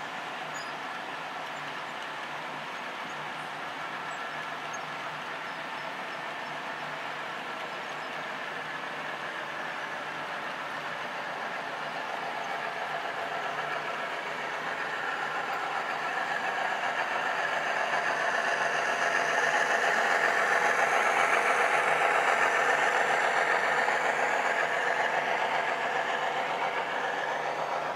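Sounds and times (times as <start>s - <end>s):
model cars rolling on track: 0.0s - 27.9s
model diesel engine sound: 0.0s - 27.9s.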